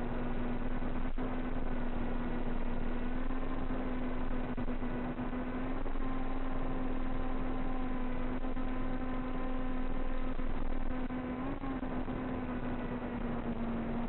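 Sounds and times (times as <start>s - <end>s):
constant rushing noise: 0.0s - 14.0s.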